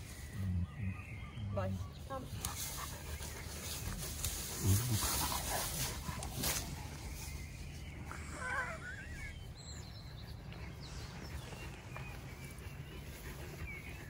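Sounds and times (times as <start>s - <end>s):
faint bird chirps: 0.0s - 3.9s, 6.4s - 14.0s.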